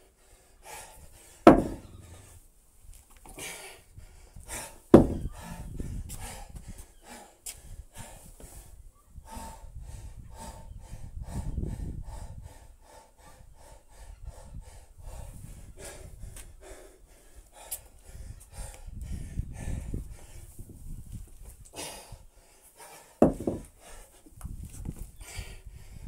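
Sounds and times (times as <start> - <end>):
man breathing hard: 0.0 - 2.4, 3.3 - 20.6, 21.6 - 24.4, 25.1 - 26.0.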